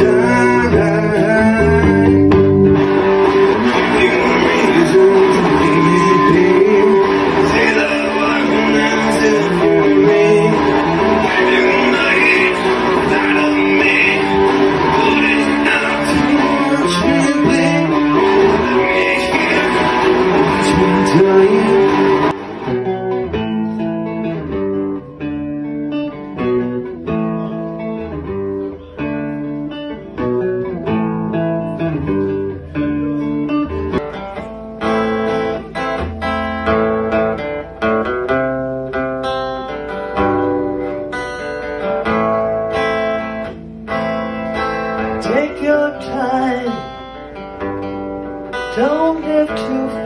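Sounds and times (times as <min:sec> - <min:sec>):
solo guitar playing: 0:00.0 - 0:50.0.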